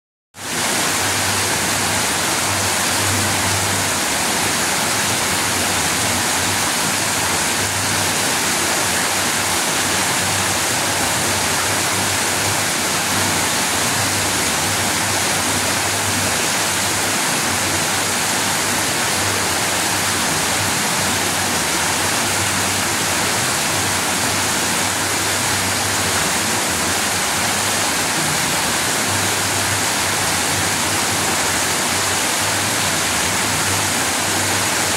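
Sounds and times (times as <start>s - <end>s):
water rushing over rocks: 0.4s - 34.9s.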